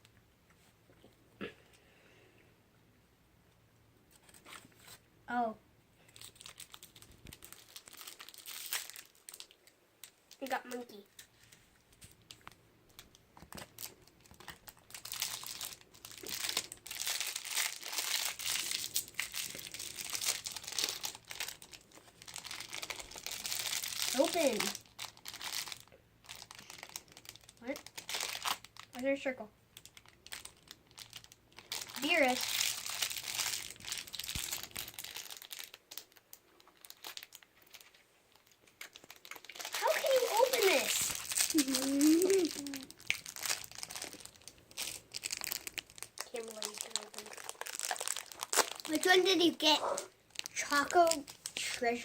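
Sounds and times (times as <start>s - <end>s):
wrappers crinkling and tearing: 4.1s - 5.0s, 6.0s - 52.0s.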